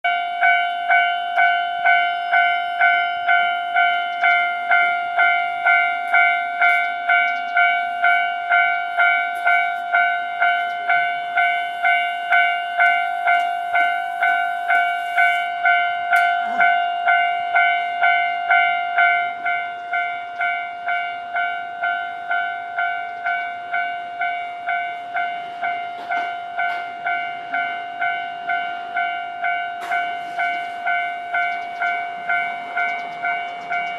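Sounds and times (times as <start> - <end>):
level-crossing electronic bell: 0.0 - 33.9.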